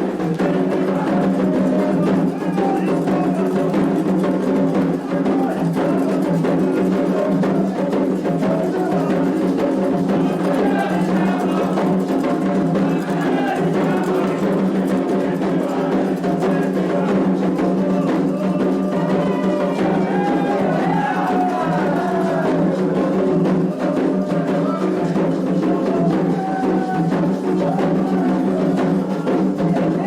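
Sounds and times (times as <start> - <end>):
hand drums: 0.0 - 30.0
voices singing: 0.0 - 30.0.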